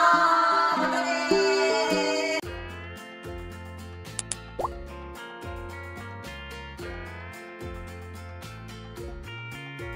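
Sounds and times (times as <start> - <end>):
background music: 0.0 - 9.9.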